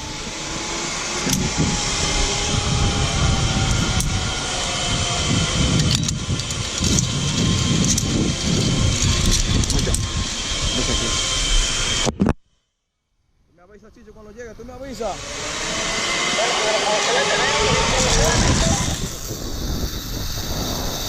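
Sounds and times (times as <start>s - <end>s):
wind buffeting microphone: 0.0s - 12.1s, 15.1s - 21.0s
zip line trolley whining on cable: 0.0s - 12.2s, 14.6s - 21.0s.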